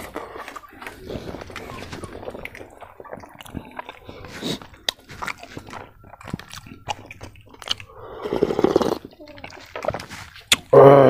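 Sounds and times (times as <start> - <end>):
person chewing food: 0.0 - 10.9.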